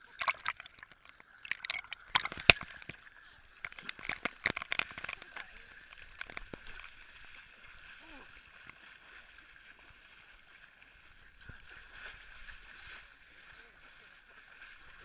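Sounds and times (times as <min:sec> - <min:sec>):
water sloshing: 0:00.0 - 0:15.0.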